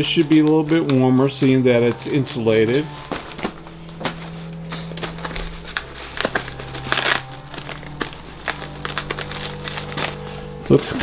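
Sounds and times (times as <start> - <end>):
material crinkling and rustling: 0.0 - 11.0.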